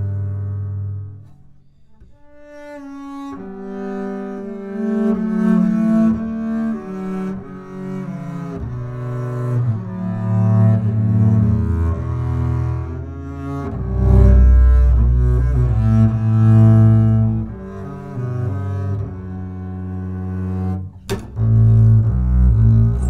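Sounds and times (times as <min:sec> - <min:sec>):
bowed double bass: 0:00.0 - 0:23.0.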